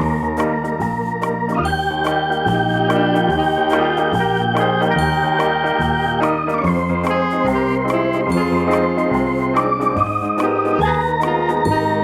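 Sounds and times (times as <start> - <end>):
bass line: 0.0 - 12.0
electronic organ-like keyboard chords: 0.0 - 12.0.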